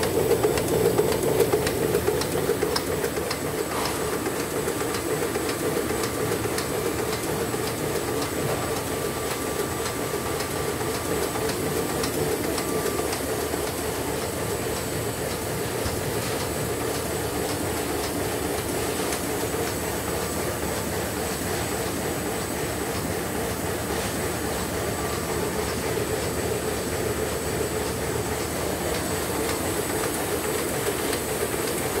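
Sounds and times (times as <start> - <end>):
printing press clattering: 0.0 - 32.0.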